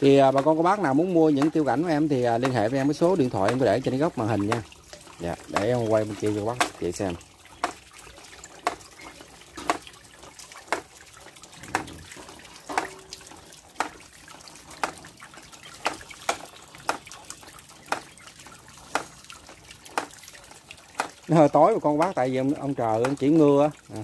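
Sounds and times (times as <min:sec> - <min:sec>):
water trickling and splashing: 0:00.0 - 0:24.0.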